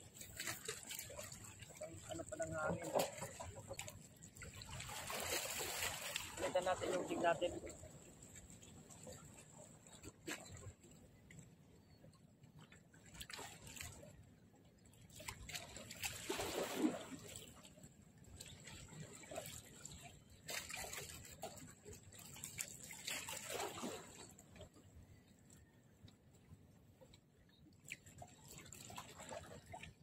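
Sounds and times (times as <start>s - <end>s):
waves lapping against rocks: 0.0s - 11.9s, 12.6s - 30.0s.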